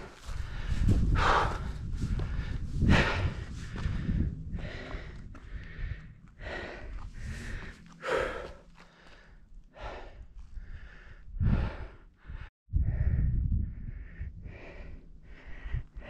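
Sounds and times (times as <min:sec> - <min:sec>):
low microphone rumble: 0:00.0 - 0:16.0
person breathing hard: 0:00.0 - 0:16.0.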